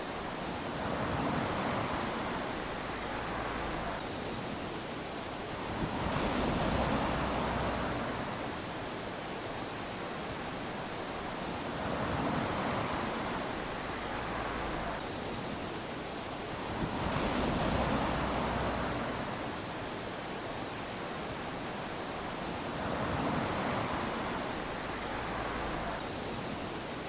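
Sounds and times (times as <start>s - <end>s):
small waves lapping on beach: 0.0s - 27.0s.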